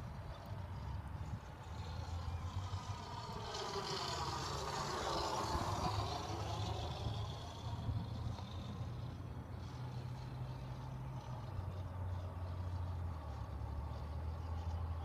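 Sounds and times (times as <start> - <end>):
model airplane flying past: 0.0 - 15.0.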